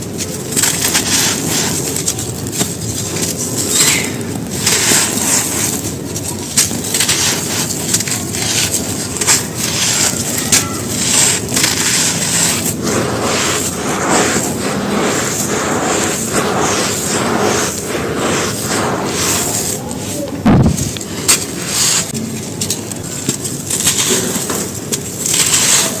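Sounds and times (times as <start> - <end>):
crisp crunches and crackles: 0.0 - 14.9, 19.5 - 26.0.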